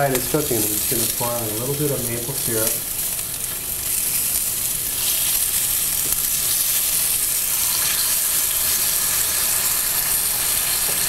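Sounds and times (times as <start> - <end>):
fish sizzling on grill: 0.0 - 11.0.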